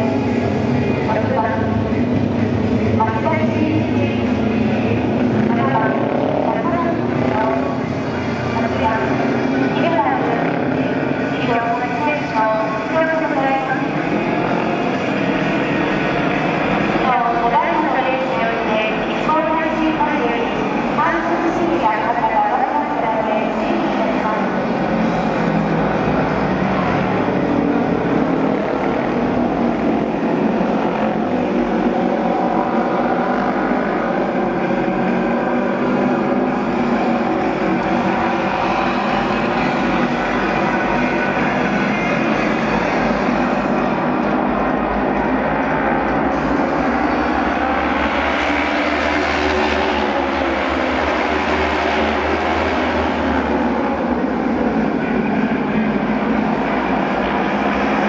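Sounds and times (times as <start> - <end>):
racing motorcycle engines droning: 0.0 - 58.0.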